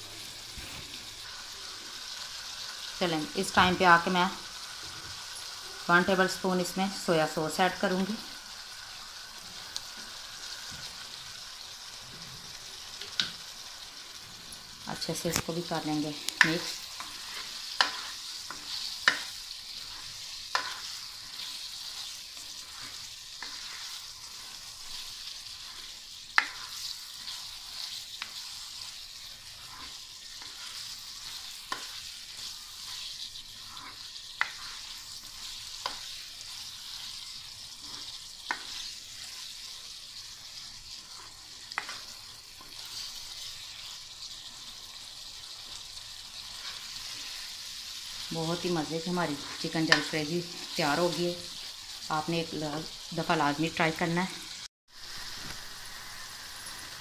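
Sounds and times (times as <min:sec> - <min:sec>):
curry sizzling: 0:00.0 - 0:57.0.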